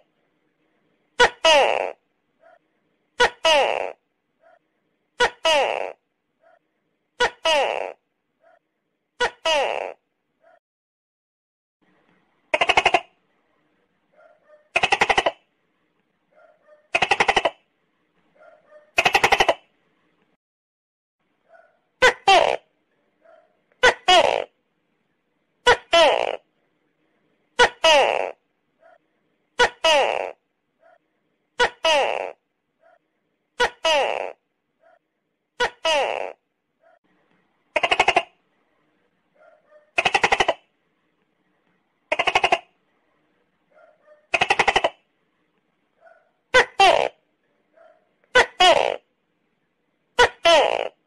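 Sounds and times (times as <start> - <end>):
faint small sounds: 0.0 - 10.6, 11.8 - 20.4, 21.2 - 51.0.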